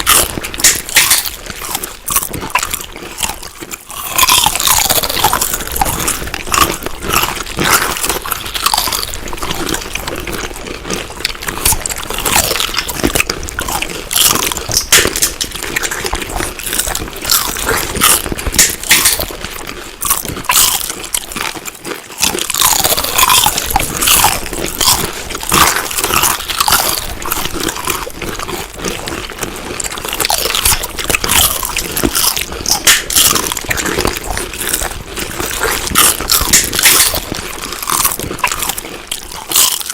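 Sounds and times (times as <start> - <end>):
crunchy food being chewed: 0.0 - 39.9.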